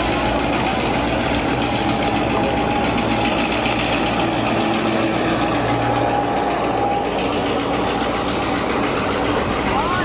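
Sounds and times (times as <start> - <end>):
diesel locomotive engine running: 0.0 - 10.0.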